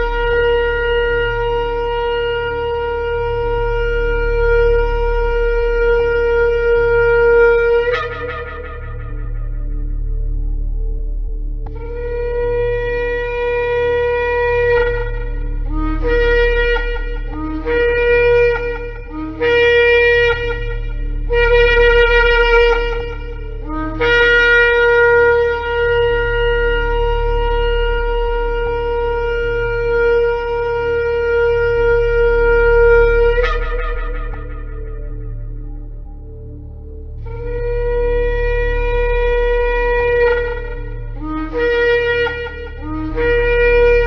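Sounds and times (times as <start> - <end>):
ram's horn blasts: 0.0 - 44.0.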